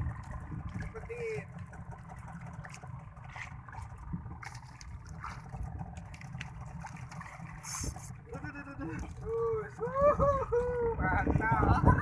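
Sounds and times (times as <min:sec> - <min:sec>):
water lapping against boat hull: 0:00.0 - 0:12.0
wind rumble on microphone: 0:00.0 - 0:12.0.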